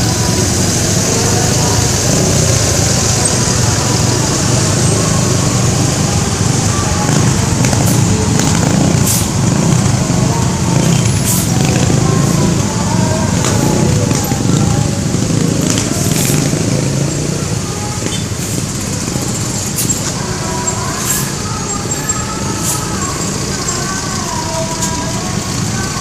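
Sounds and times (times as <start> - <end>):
bus engine rumble: 0.0 - 26.0
road noise: 0.0 - 26.0.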